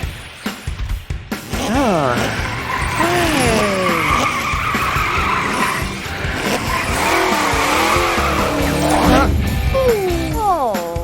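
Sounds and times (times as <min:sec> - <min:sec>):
tyres skidding: 0:00.0 - 0:10.5
cartoon engine revving: 0:01.4 - 0:10.4.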